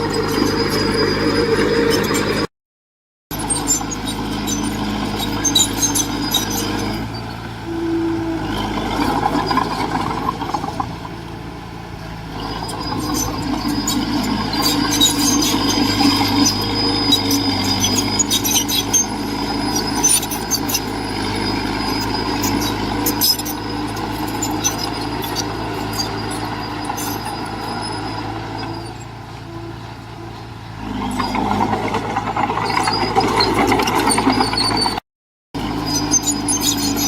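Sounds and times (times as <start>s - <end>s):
heavy diesel machinery running: 0.0s - 2.5s, 3.3s - 35.0s, 35.6s - 37.0s.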